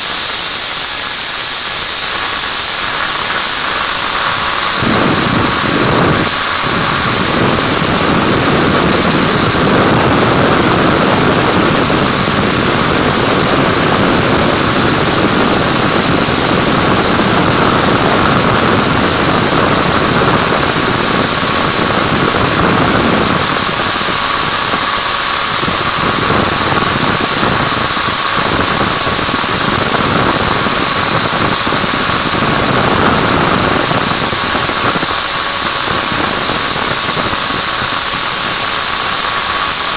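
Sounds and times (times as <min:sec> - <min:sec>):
angle grinder whine: 0:00.0 - 0:39.9.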